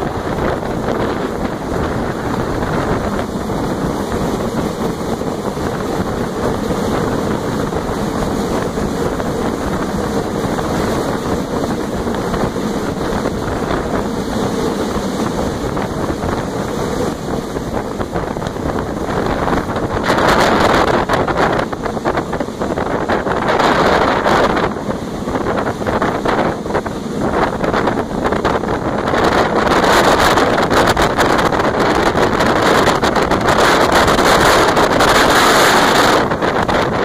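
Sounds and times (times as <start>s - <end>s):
freight train rumbling: 0.0s - 37.0s
wind buffeting microphone: 0.0s - 37.0s.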